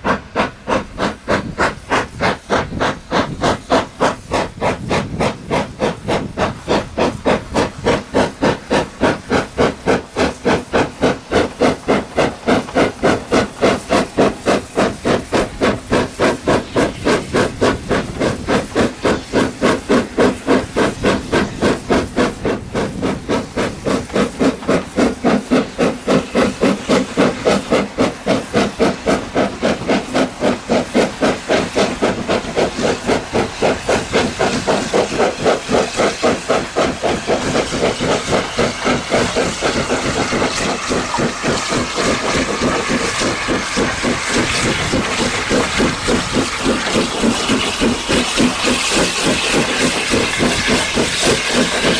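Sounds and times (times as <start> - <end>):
steam hissing: 0.0 - 51.9
steam locomotive chuffing: 0.0 - 51.9.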